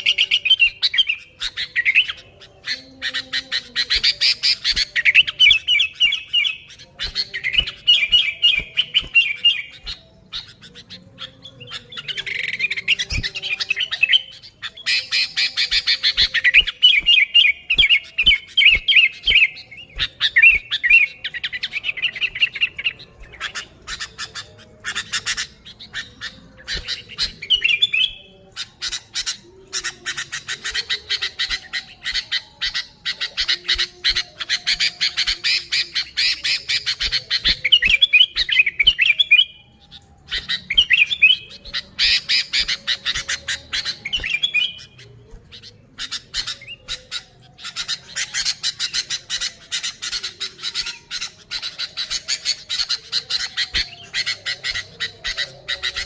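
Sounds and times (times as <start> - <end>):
warbled whistling phrases: 0.0 - 56.0.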